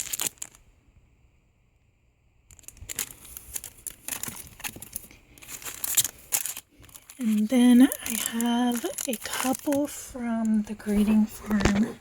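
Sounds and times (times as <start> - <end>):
packaging crinkling and rustling: 0.0 - 0.7, 2.5 - 12.0.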